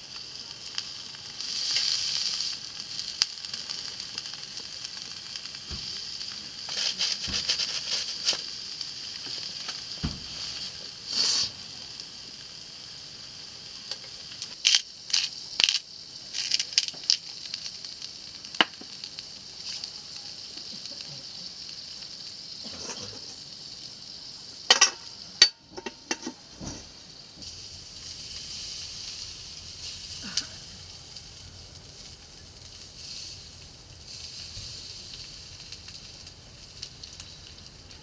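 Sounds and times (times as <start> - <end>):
food sizzling in a frying pan: 0.0 - 38.0.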